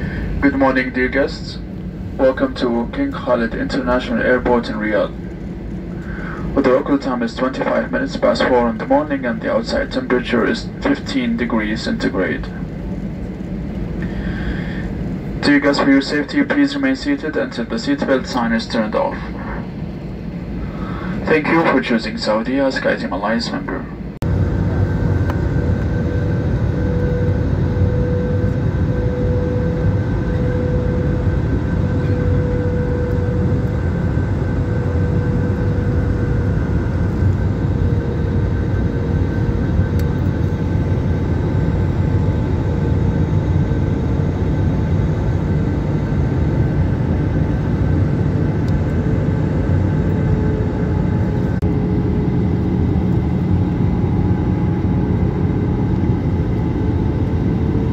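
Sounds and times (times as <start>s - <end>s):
jet engine roar in cabin: 0.0s - 57.9s
jet engine whine: 0.0s - 57.9s.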